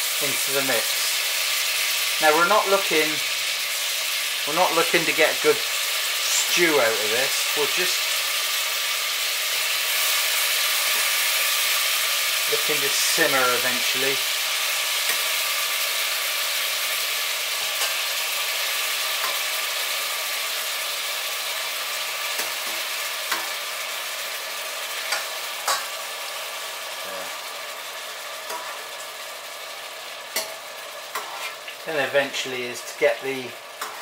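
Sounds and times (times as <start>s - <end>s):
apple sizzling in butter: 0.0s - 34.0s.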